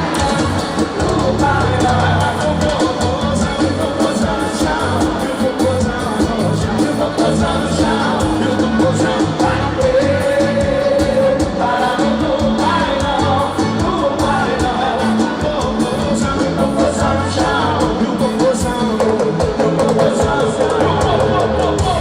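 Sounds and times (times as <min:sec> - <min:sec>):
live band music: 0:00.0 - 0:22.0
man singing: 0:00.0 - 0:22.0.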